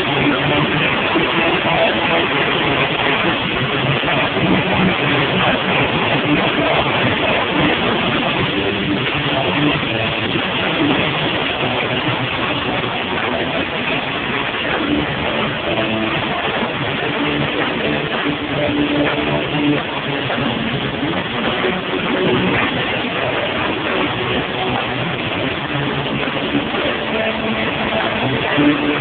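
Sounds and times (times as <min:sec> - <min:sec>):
drum kit: 0:00.0 - 0:29.0
electric guitar through amplifier: 0:00.0 - 0:29.0.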